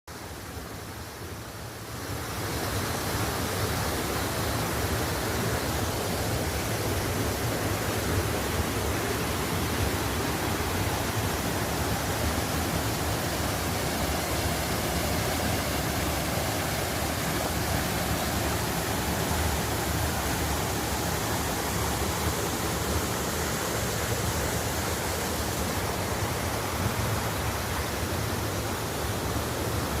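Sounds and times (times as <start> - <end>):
stream water rushing: 0.1 - 30.0.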